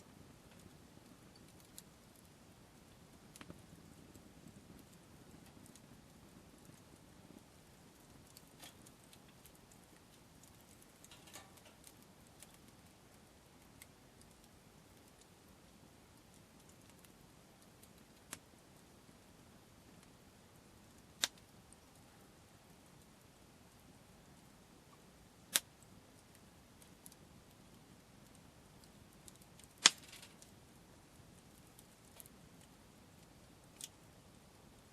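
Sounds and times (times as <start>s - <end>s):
campfire crackling and popping: 0.0s - 34.9s
faint ticks of fire: 0.0s - 34.9s.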